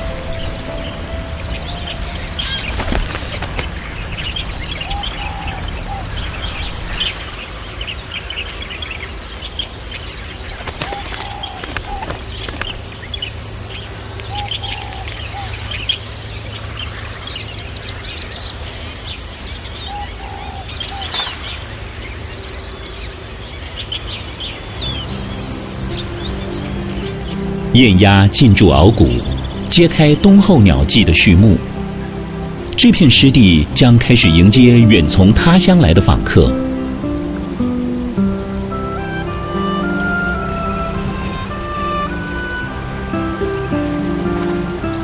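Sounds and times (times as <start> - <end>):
birds chirping and twittering: 0.0 - 45.0.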